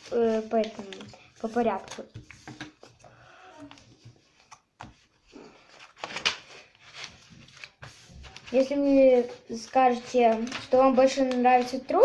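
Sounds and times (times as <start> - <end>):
paper crinkling: 0.0 - 3.0, 3.6 - 12.0.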